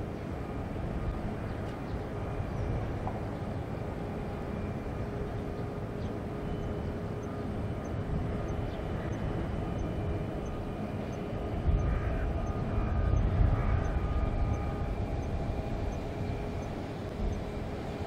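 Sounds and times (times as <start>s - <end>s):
distant airliner rumble: 0.0s - 18.0s.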